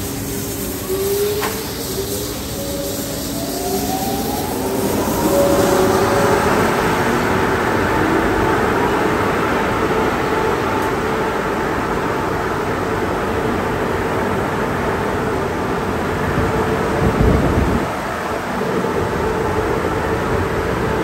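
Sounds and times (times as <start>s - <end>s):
car wash machinery whine: 0.0s - 21.0s
drying blowers rushing air: 0.0s - 21.0s.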